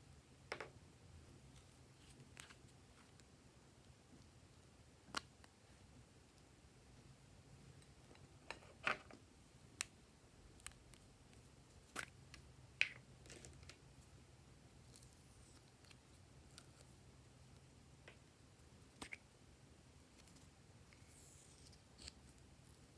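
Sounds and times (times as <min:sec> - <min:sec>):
faint low hum: 0:00.0 - 0:22.9.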